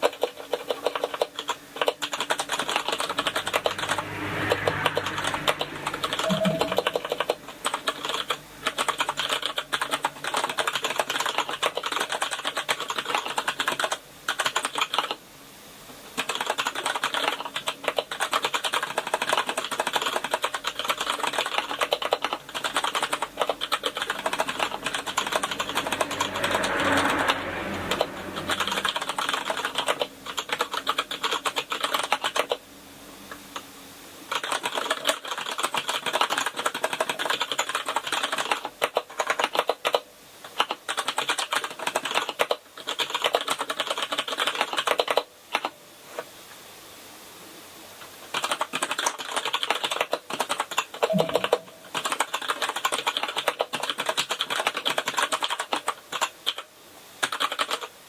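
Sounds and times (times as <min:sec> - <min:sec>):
fast typing on keyboard: 0:00.0 - 0:15.2, 0:16.1 - 0:32.6, 0:34.3 - 0:45.7, 0:48.2 - 0:58.0.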